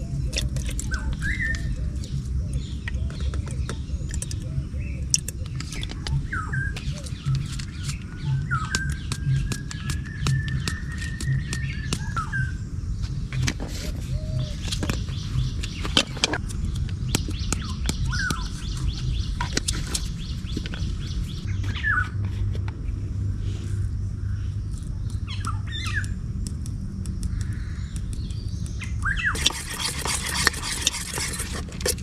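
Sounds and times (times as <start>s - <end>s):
steady low rumble: 0.0s - 29.4s
birds chirping: 0.0s - 32.0s.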